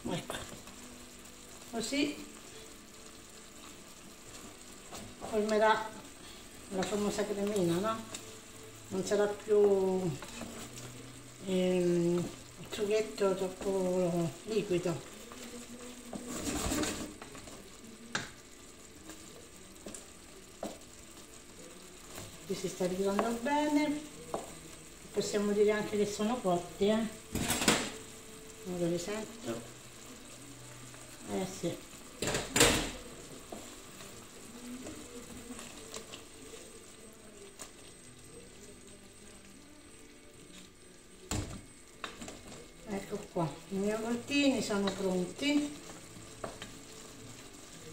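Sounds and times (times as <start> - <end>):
sauce sizzling in pot: 0.0 - 47.9
spatula stirring: 2.3 - 26.6, 27.3 - 39.6, 41.6 - 47.9.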